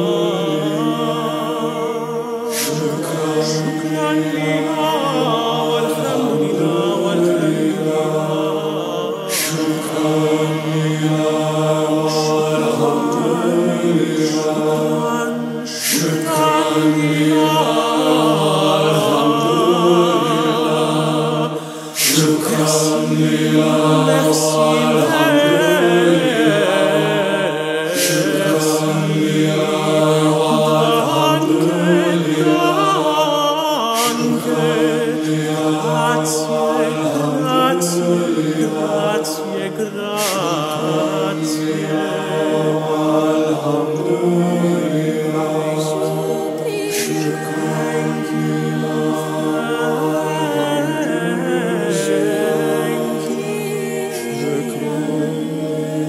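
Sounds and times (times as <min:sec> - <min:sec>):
men's choir singing chords: 0:00.0 - 0:56.0
voice singing vibrato lines: 0:00.0 - 0:56.0.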